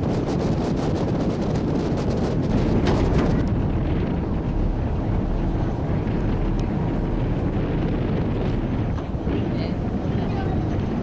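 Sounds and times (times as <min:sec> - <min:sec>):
boat running over water: 0:00.0 - 0:11.0
wind buffeting microphone: 0:00.0 - 0:11.0.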